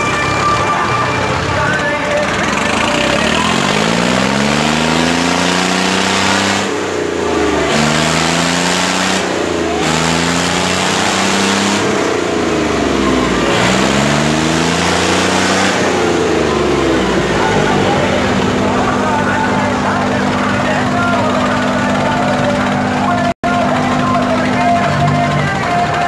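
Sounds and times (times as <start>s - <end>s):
loud rough noise: 0.0s - 26.0s
tractor diesel engines revving: 0.0s - 26.0s.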